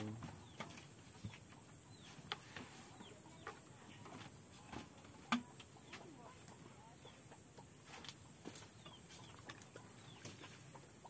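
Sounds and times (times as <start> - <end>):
chickens clucking: 0.0 - 11.0
small birds chirping: 0.0 - 11.0.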